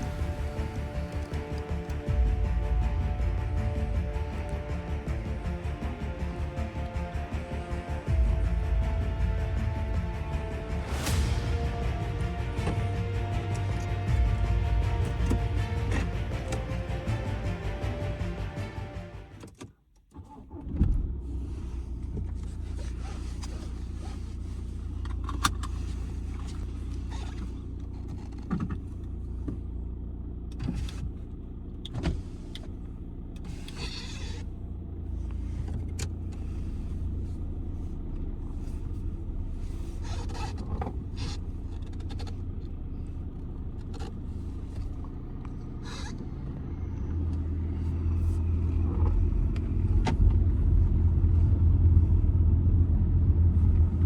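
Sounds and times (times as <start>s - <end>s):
diesel engine idling: 0.0s - 19.4s, 21.4s - 54.0s.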